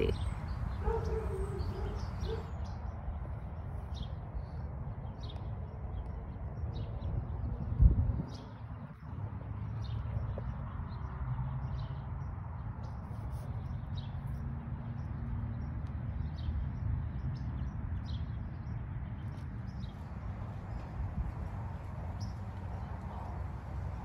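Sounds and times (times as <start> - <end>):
small birds chirping: 0.0 - 7.5, 8.3 - 24.0.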